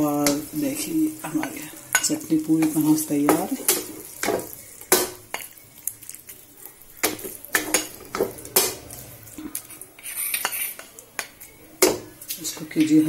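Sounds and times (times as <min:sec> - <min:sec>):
spatula scraping and knocking pan: 0:00.0 - 0:05.6, 0:07.0 - 0:13.0.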